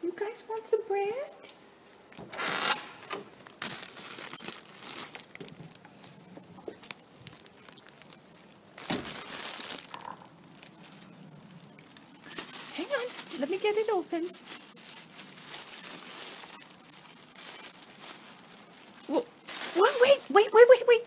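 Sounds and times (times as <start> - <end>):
plastic packaging crinkling: 2.3 - 21.0.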